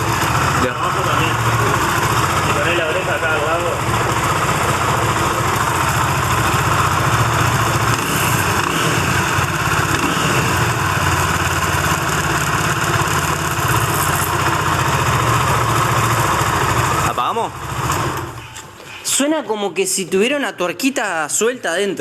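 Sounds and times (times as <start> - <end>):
motorcycle engine idling: 0.0 - 18.6.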